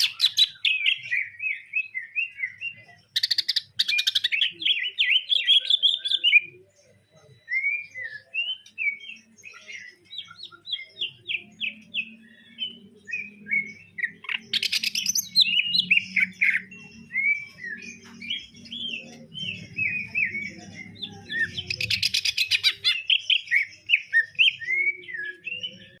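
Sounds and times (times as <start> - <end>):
bird singing whistled phrases: 0.0 - 26.0.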